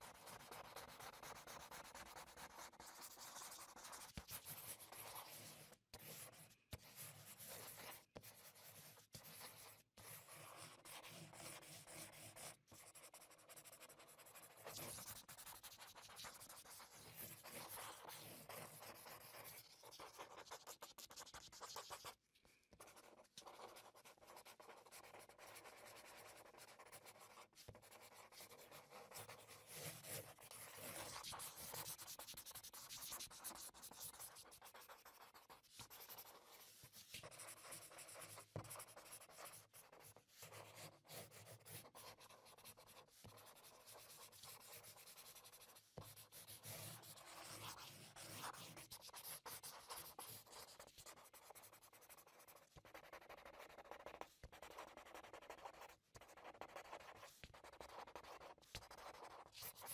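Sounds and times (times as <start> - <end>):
paintbrush scratching on paper: 0.0 - 59.9.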